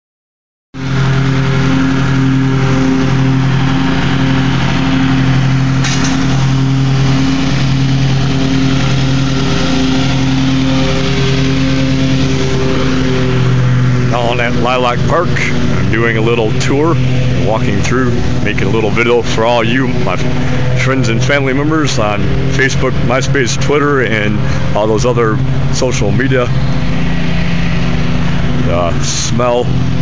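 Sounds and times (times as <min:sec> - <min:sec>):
small petrol engine running: 0:00.8 - 0:30.0.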